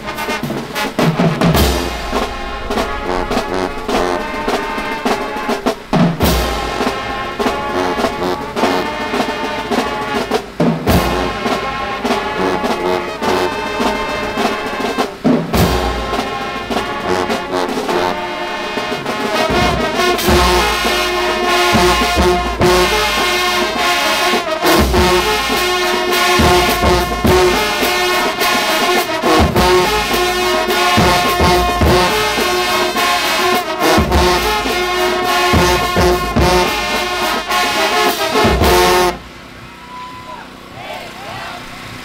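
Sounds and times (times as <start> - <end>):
drum hits: 0.0 - 39.2
marching band brass chords: 0.0 - 42.0.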